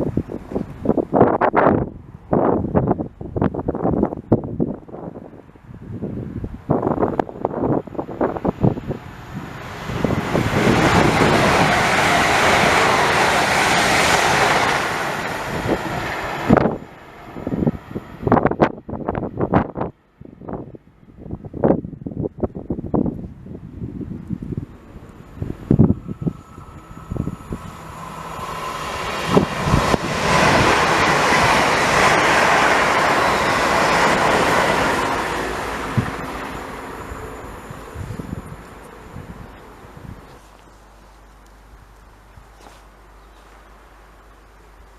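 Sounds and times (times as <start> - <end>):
train passing at speed: 0.0 - 20.8, 23.7 - 40.6
wind buffeting microphone: 0.0 - 40.5.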